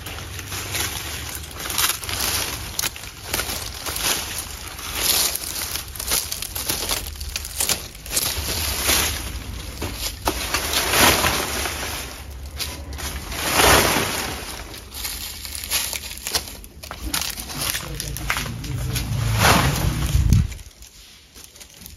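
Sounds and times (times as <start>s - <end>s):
leaves rustling and crackling: 0.0s - 21.9s.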